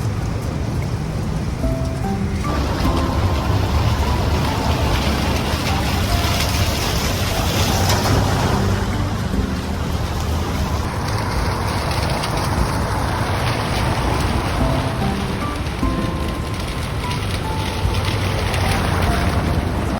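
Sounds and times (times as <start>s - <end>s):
steady rain: 0.0s - 19.9s
wind buffeting microphone: 0.0s - 19.9s.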